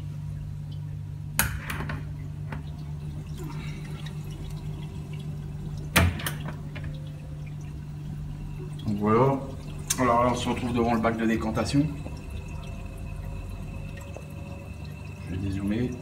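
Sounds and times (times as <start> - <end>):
pump hum: 0.0 - 16.0
water trickling and dripping: 0.0 - 16.0.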